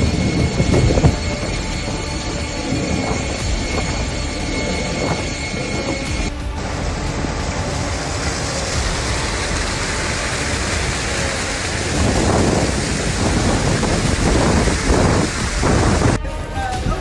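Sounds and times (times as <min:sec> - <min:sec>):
rain: 0:00.0 - 0:16.2
water rushing: 0:00.0 - 0:16.2.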